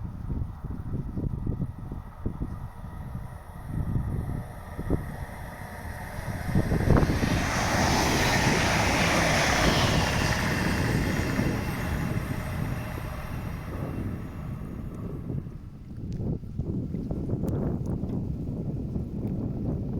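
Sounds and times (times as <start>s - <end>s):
train passing at speed: 0.0s - 16.1s
wind buffeting microphone: 0.0s - 19.9s.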